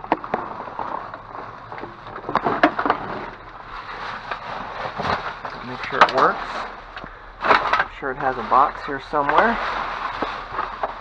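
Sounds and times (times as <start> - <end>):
goods rattling in a dumpster: 0.0 - 11.0.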